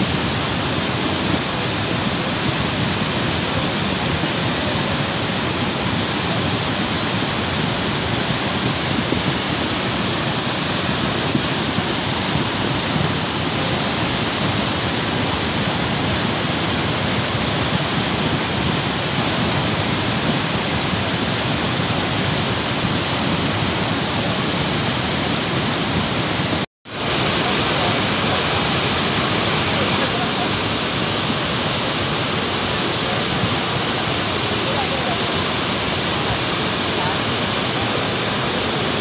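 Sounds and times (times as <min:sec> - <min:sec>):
rushing muddy water and debris: 0:00.0 - 0:39.0.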